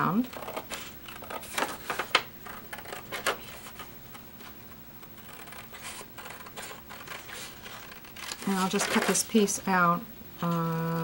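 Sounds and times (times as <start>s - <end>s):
paper rustling and scraping: 0.3s - 9.6s.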